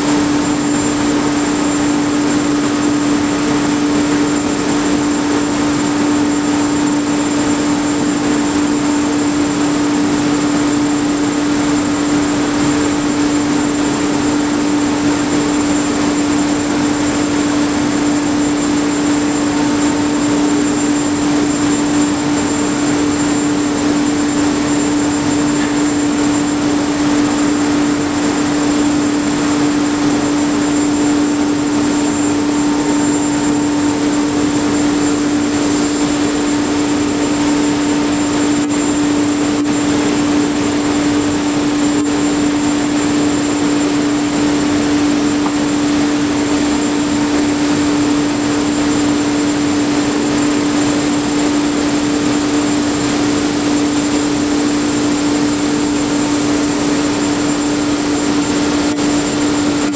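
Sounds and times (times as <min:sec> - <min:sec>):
heavy machinery droning: 0:00.0 - 0:59.9.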